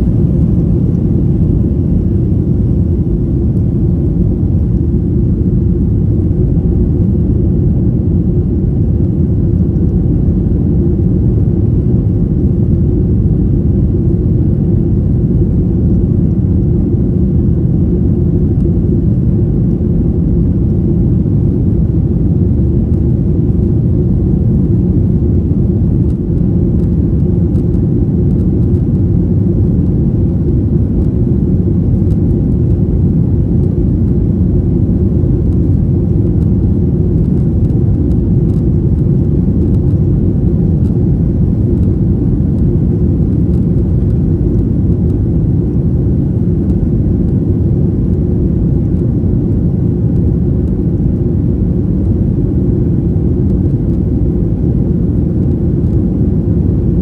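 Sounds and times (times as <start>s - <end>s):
jet engines deep rumble: 0.0s - 57.0s.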